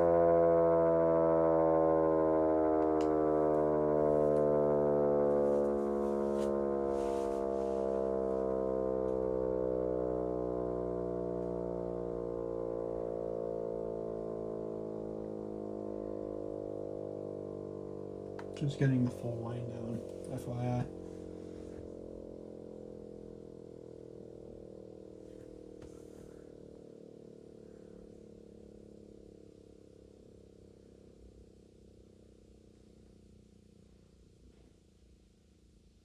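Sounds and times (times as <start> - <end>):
siren winding down: 0.0 - 31.3.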